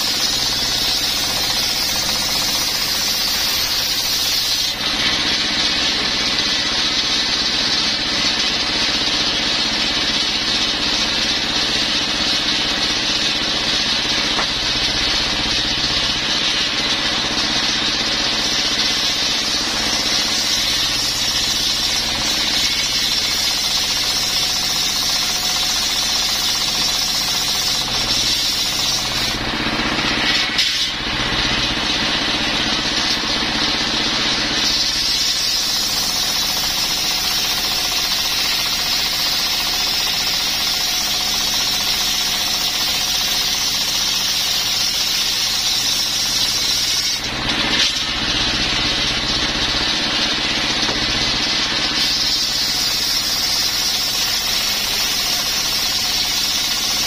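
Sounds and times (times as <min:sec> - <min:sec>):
diesel engine running: 0:00.0 - 0:57.0
table saw cutting wood: 0:00.0 - 0:57.0.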